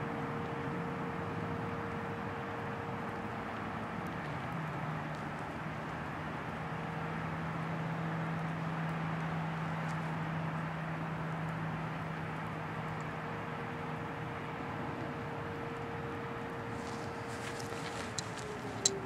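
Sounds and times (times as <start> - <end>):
distant warning sirens: 0.0 - 19.0
rushing background noise: 0.0 - 19.0.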